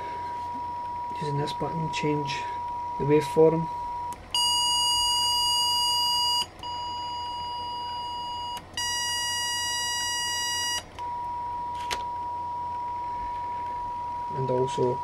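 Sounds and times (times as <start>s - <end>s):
steady electronic tone: 0.0s - 7.8s, 8.8s - 15.0s.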